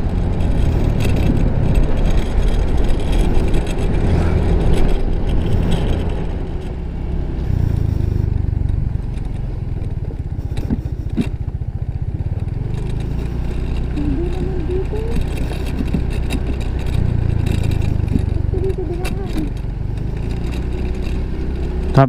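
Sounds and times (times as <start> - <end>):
motor scooter engine running: 0.0 - 22.0.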